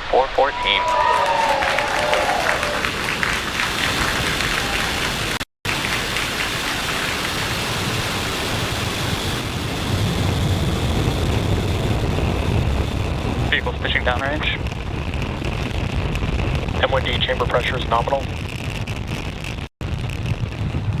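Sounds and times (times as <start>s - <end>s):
rocket engine roar: 0.0s - 21.0s.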